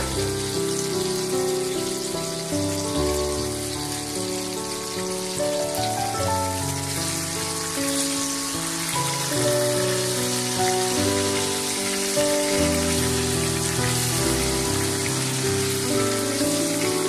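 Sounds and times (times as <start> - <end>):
background music of held notes: 0.0 - 17.0
oil sizzling in a pan: 0.0 - 17.0.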